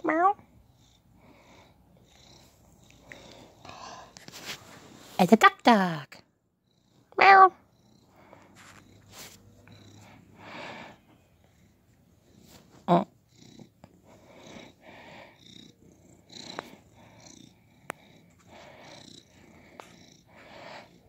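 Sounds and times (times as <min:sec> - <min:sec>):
cat purring: 0:00.0 - 0:05.4, 0:06.0 - 0:21.0.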